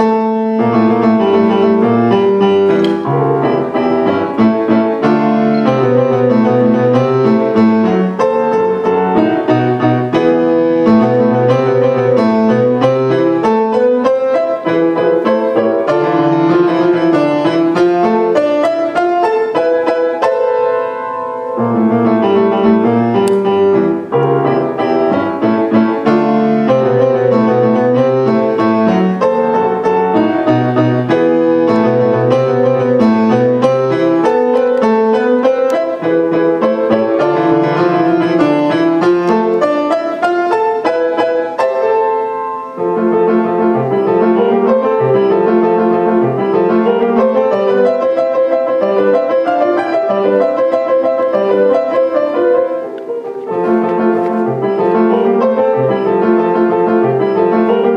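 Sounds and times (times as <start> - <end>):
solo grand piano: 0.0 - 57.9.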